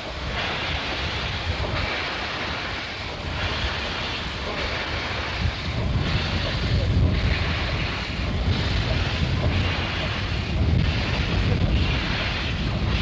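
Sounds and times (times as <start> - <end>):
pulsing hiss: 0.0 - 13.0
steady low rumble: 0.0 - 13.0
wind buffeting the microphone: 0.0 - 13.0.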